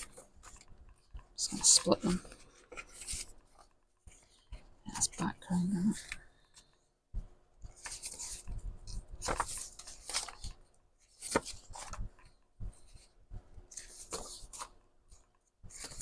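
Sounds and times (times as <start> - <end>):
paper rustling: 0.0 - 5.3, 7.7 - 16.0.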